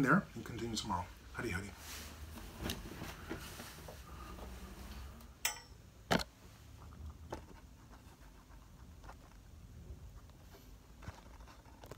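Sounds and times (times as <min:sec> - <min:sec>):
low room hum: 0:00.0 - 0:11.9.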